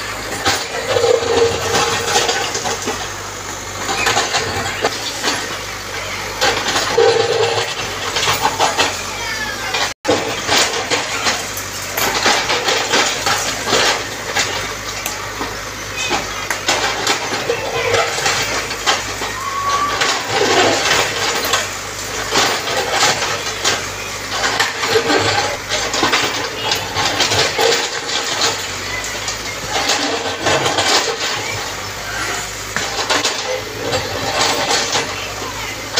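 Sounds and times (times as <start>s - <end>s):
bricks and rubble crashing: 0.0s - 35.9s
diesel engine running: 0.0s - 35.9s.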